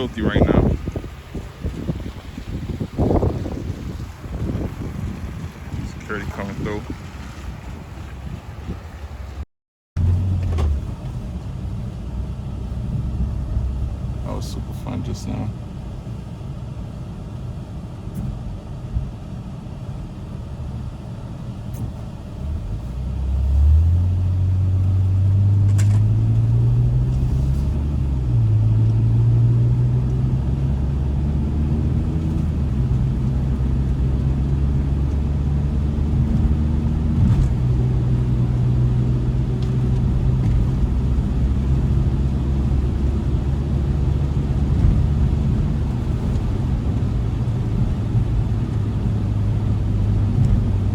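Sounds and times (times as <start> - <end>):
car engine accelerating: 10.0 - 50.9.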